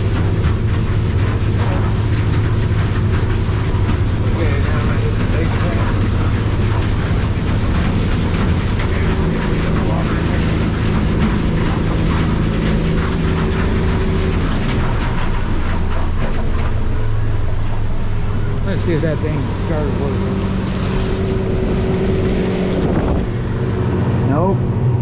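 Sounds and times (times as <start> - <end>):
outboard motor running: 0.0 - 25.0
water rushing against hull: 0.0 - 25.0.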